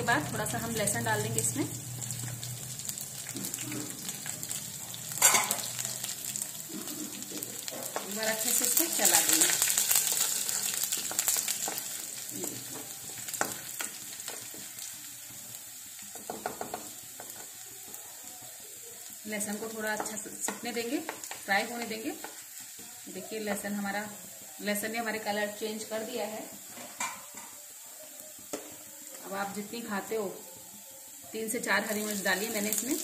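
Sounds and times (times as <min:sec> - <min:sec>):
spices sizzling in hot oil: 0:00.0 - 0:33.0.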